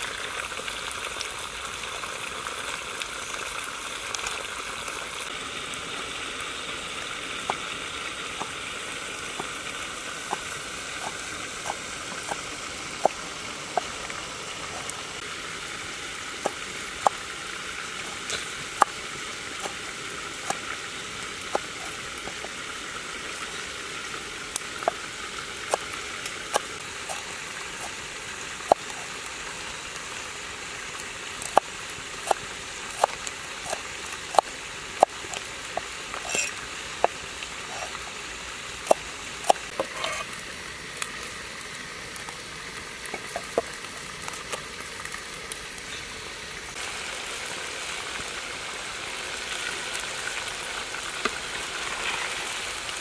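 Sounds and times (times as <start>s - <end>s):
meat sizzling in a wok: 0.0s - 53.0s.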